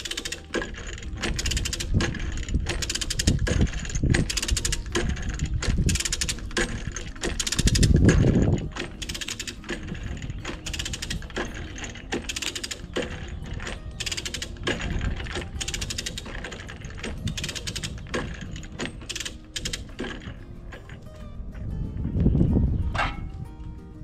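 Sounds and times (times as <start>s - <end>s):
winch ratchet clicking: 0.0s - 21.7s.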